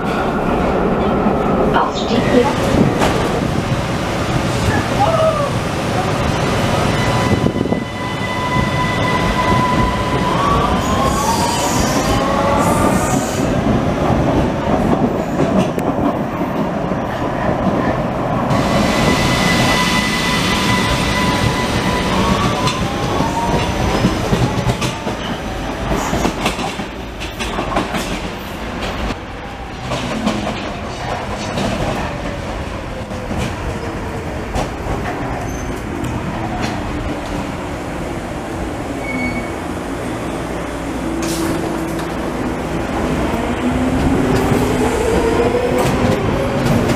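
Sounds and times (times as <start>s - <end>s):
metro train wheels rumbling: 0.0s - 46.9s.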